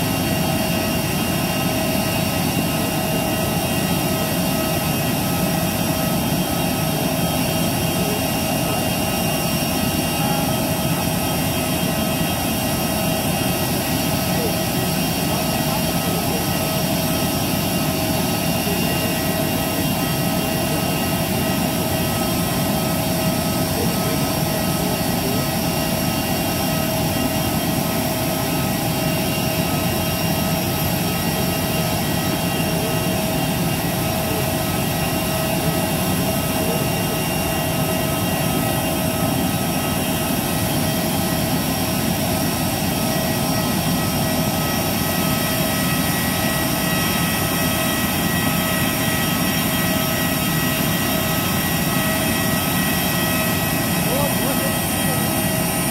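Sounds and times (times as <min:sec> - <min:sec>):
turbine roar with whining tones: 0:00.0 - 0:55.9.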